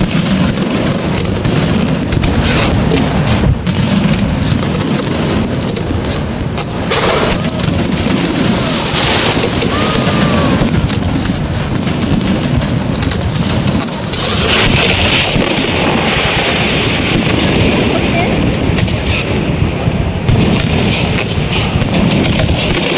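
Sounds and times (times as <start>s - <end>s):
fireworks booming and banging: 0.0s - 22.9s
fireworks crackling: 0.0s - 22.9s.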